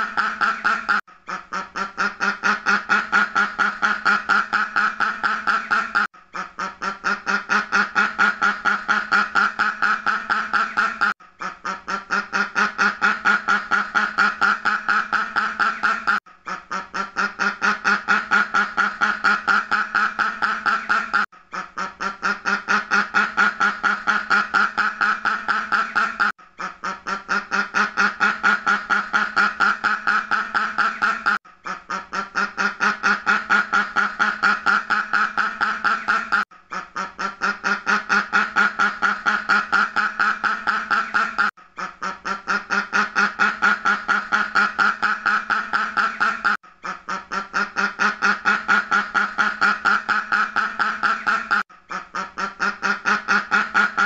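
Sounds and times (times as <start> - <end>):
duck quacking: 0.0 - 54.0.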